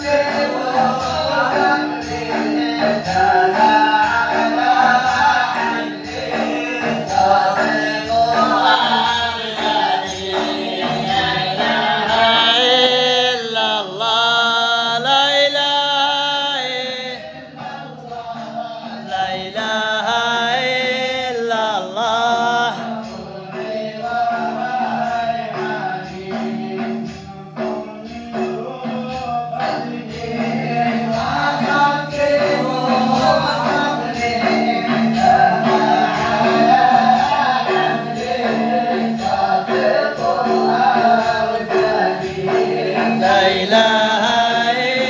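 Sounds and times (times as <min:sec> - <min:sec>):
men singing a chant: 0:00.0 - 0:45.0
steady beat: 0:00.0 - 0:45.0.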